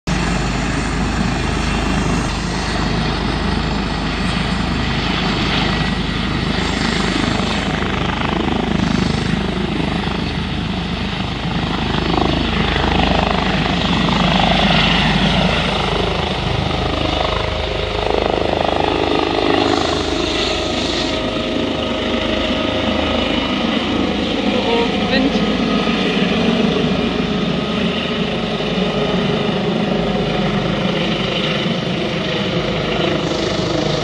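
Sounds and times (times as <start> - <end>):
helicopter rotor and turbine: 0.0 - 34.0.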